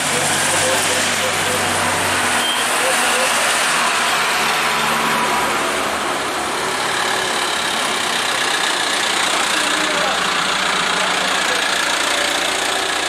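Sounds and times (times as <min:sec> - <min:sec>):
diesel trucks passing: 0:00.0 - 0:13.0.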